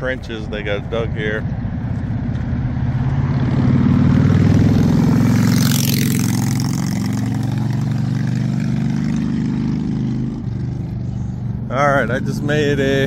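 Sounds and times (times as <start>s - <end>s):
vehicle engine passing: 0.3s - 13.0s.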